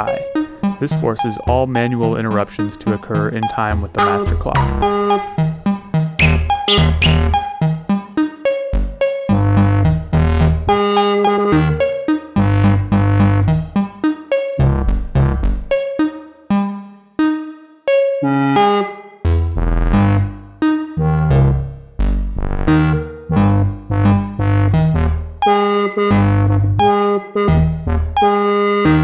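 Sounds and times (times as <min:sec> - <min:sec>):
synthesizer step-sequence notes: 0:00.0 - 0:29.0.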